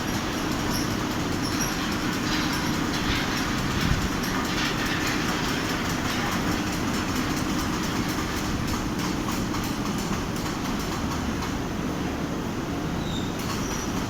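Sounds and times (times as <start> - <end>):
machine rumble and rattle: 0.0 - 14.0.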